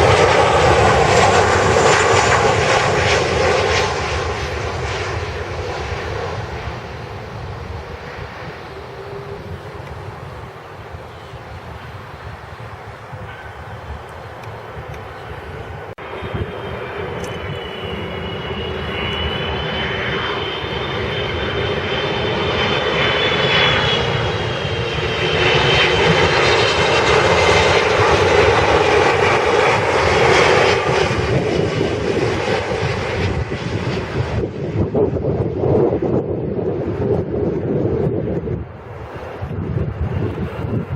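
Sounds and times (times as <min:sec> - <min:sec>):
jet engines passing: 0:00.0 - 0:40.9.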